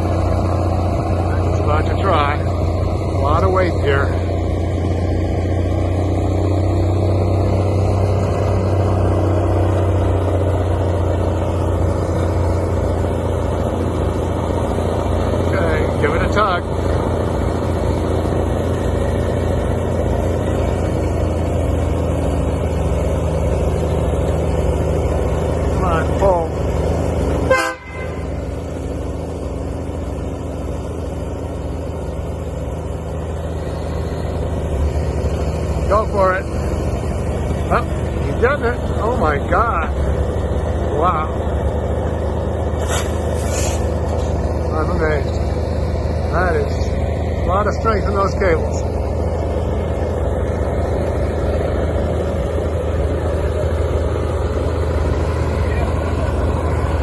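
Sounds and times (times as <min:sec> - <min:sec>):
truck engine humming: 0:00.0 - 0:57.0.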